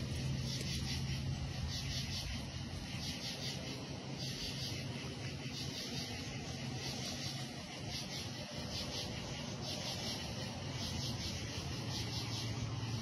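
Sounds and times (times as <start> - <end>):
crickets chirping: 0.0 - 13.0
low steady hum: 0.0 - 13.0.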